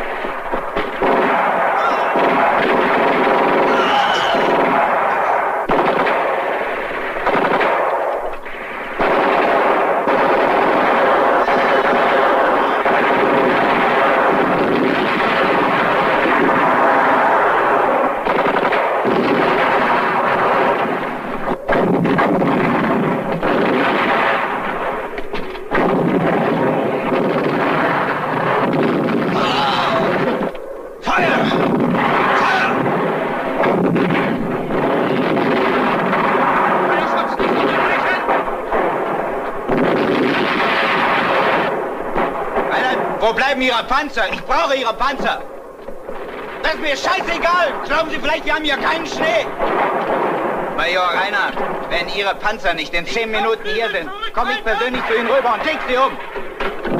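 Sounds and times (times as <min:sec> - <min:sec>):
machine-gun fire: 0:00.0 - 0:45.4, 0:46.0 - 0:56.9
artillery: 0:00.0 - 0:56.9
rifle fire: 0:00.0 - 0:56.9.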